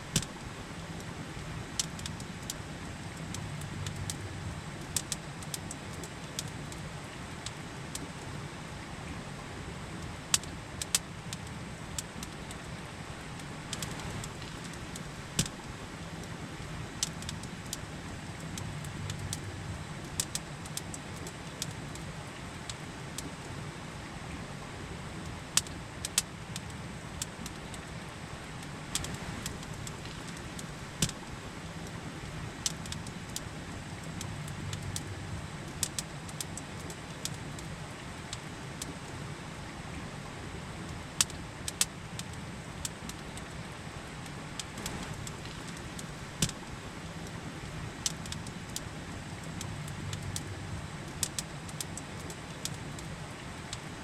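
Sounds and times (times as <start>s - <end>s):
campfire crackling and popping: 0.0s - 8.2s, 9.9s - 23.5s, 25.1s - 39.2s, 40.9s - 54.0s.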